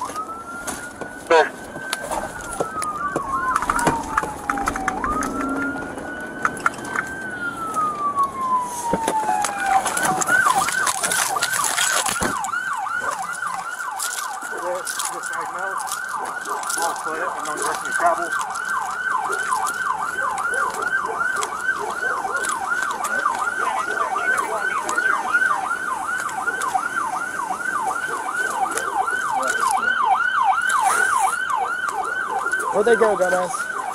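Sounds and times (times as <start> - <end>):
police siren wailing and yelping: 0.0 - 33.9.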